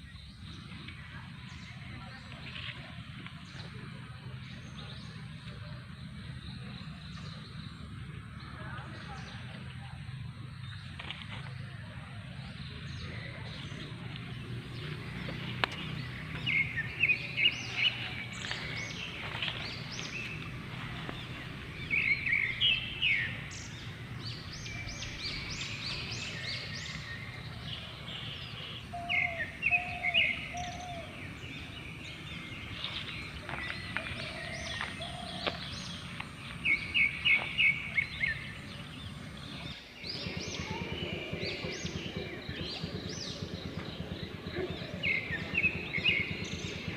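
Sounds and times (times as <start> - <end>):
songbird singing bright notes: 0.0 - 46.9.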